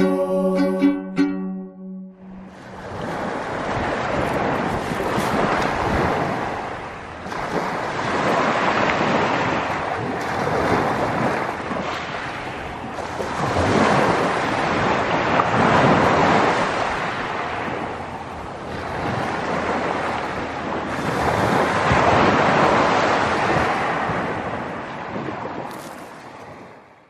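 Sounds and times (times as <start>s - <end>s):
sea waves washing on shore: 2.4s - 27.0s.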